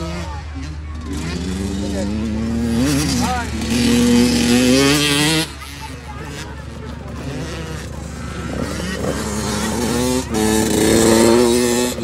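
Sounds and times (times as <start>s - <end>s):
dirt bike engine accelerating: 0.0s - 12.0s.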